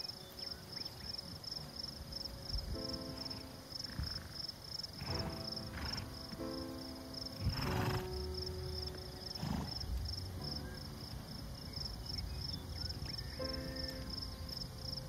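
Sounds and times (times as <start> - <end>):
insects chirping: 0.0 - 15.0
soft background music: 0.0 - 15.0.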